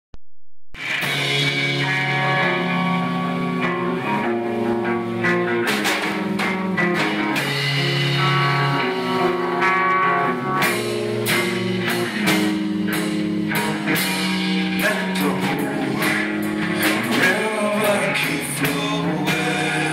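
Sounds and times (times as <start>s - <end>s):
electric guitars: 0.8s - 19.9s.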